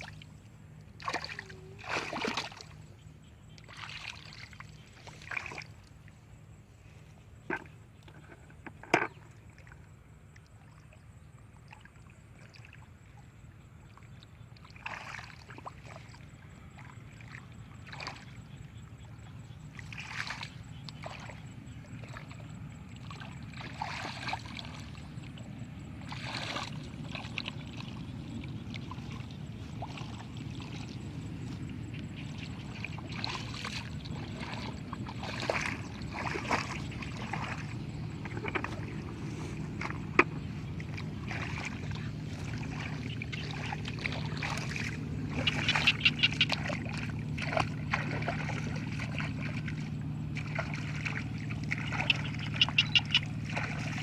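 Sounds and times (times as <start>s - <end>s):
water splashes: 0.0s - 6.1s, 14.0s - 54.0s
boat motor rumble: 0.0s - 54.0s.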